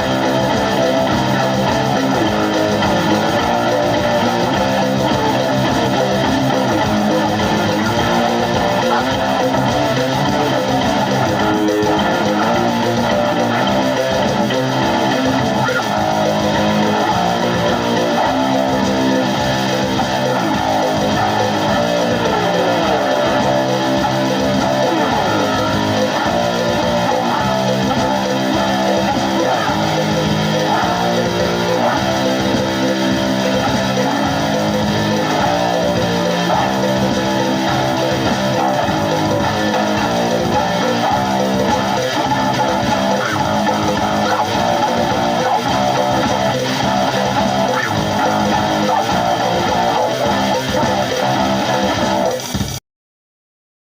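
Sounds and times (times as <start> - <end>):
rock music with electric guitar: 0.0 - 52.8.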